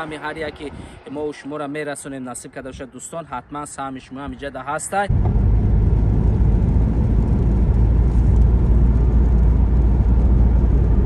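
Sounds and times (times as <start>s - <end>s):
car driving on highway: 0.0s - 11.0s.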